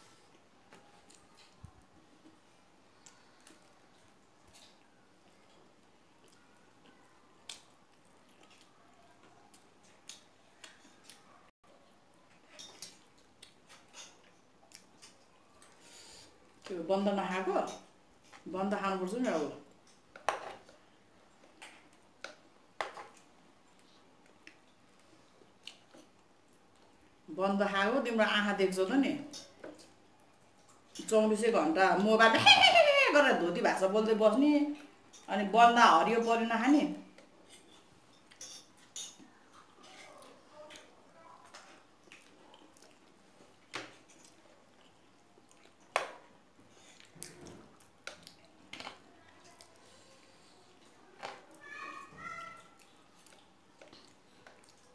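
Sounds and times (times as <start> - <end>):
faint eating sounds: 0.0 - 54.9.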